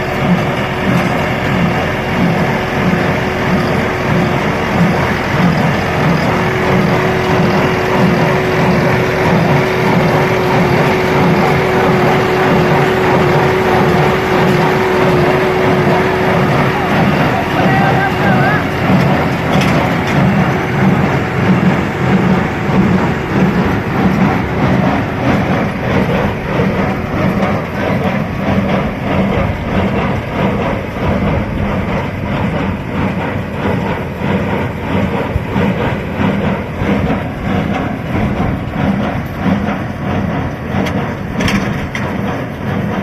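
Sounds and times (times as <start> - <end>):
baler rhythmic pulsing: 0.0 - 43.0
tractor diesel engine drone: 0.0 - 43.0.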